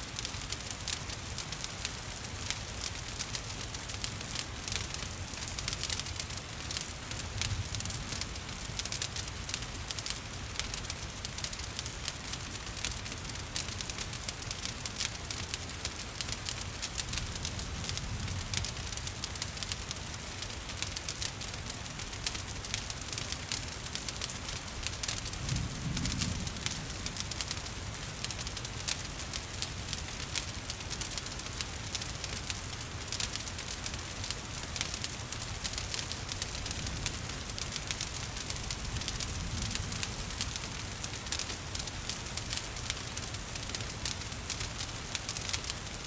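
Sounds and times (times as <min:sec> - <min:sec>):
gentle rain hissing: 0:00.0 - 0:46.0
low rumble of flames: 0:00.0 - 0:46.0
wood fire crackling: 0:00.0 - 0:46.0.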